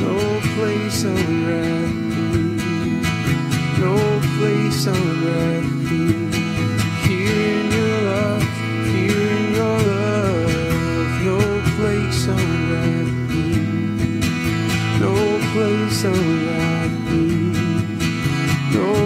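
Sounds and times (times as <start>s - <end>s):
guitar playing: 0.0s - 19.0s
slow worship music: 0.0s - 19.0s.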